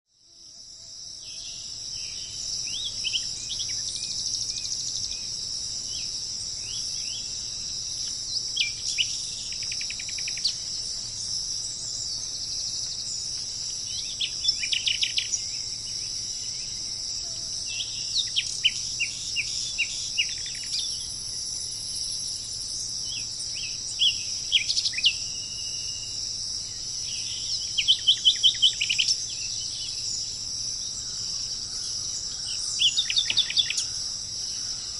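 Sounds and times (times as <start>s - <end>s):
insect chorus: 0.1s - 34.9s.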